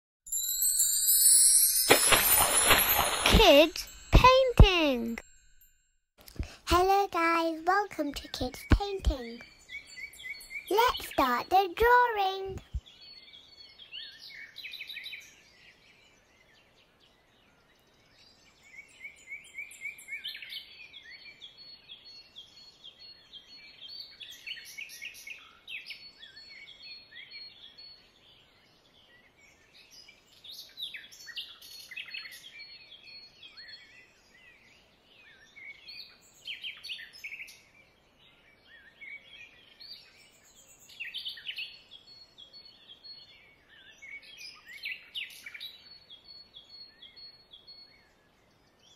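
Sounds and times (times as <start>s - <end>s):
small birds chirping and trilling: 8.1s - 48.9s.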